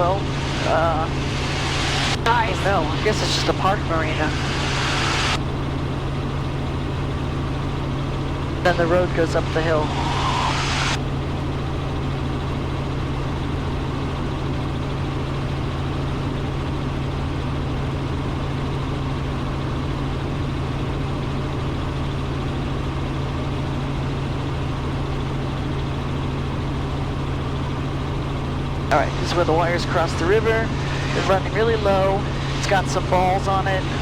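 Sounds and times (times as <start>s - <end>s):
constant low hum: 0.0s - 34.0s
helicopter rotors and engine droning: 0.0s - 34.0s.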